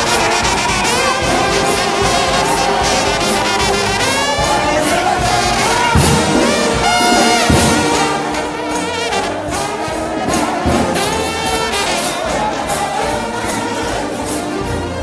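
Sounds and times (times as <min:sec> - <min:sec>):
brass band playing gospel: 0:00.0 - 0:15.0
drum beats: 0:00.0 - 0:15.0.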